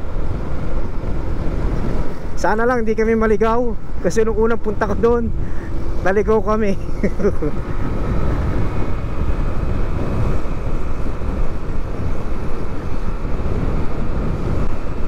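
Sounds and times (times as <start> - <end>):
motorcycle engine and road noise: 0.0 - 15.0
wind rush on microphone: 0.0 - 15.0.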